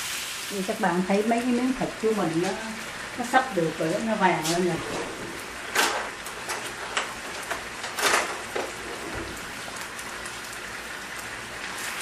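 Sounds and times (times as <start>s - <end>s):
pork sizzling in a pan: 0.0s - 12.0s.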